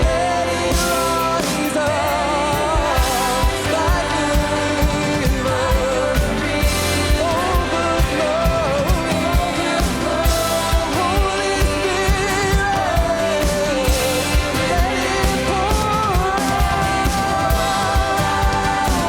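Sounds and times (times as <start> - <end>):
person singing melody: 0.0 - 19.0
worship band playing: 0.0 - 19.0.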